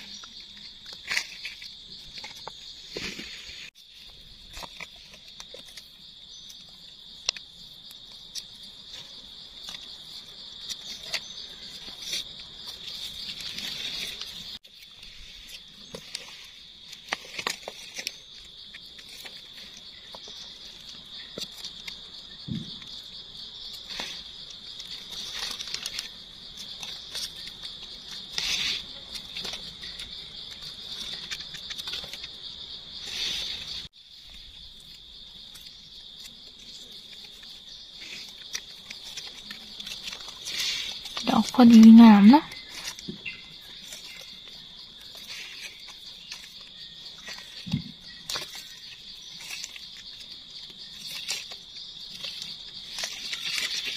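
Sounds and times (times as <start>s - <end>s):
high-pitched insect chorus: 0.0s - 53.9s
rustling of dry leaves: 0.0s - 53.9s.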